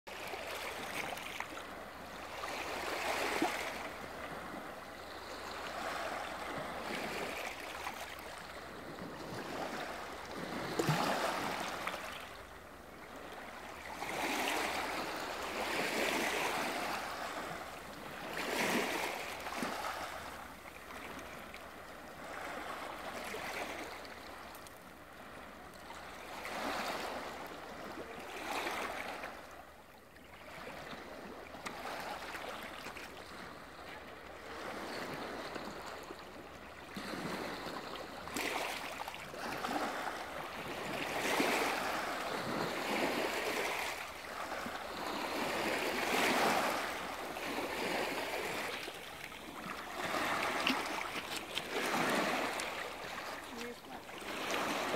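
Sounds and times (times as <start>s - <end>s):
waves lapping on pebbles: 0.1s - 29.5s, 30.3s - 54.9s.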